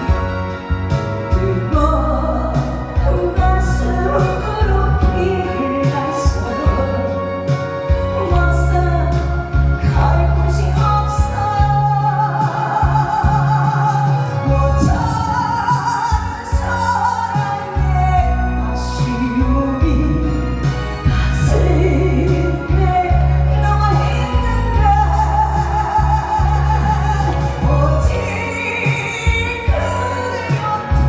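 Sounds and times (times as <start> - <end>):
amplified music with bass: 0.0 - 31.0
person singing live: 0.0 - 31.0.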